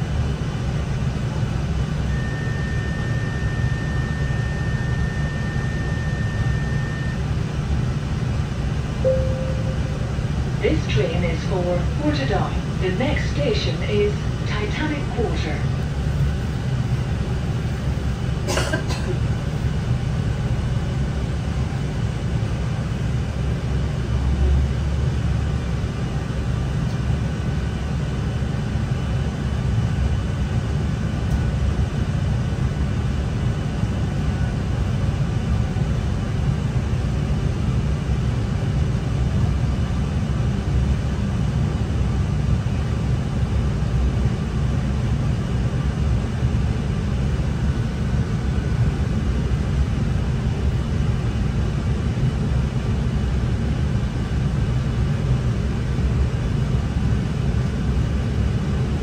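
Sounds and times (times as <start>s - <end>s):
train rumble from inside carriage: 0.0s - 59.0s.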